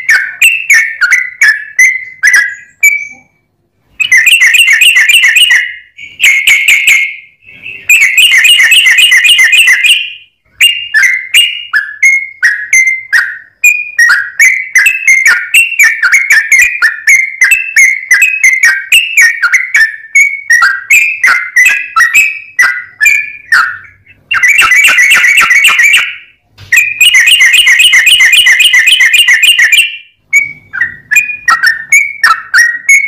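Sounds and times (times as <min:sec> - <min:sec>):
bulbul singing: 0:00.0 - 0:33.0.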